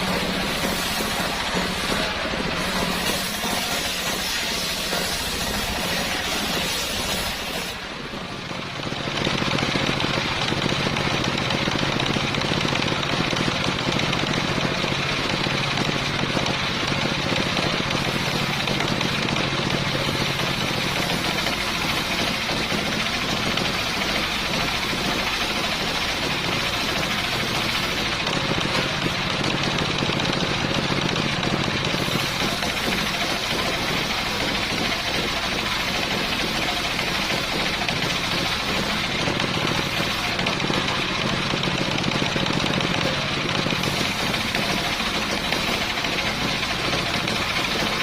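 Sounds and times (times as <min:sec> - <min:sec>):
engine-driven circular saw running: 0:00.0 - 0:48.0.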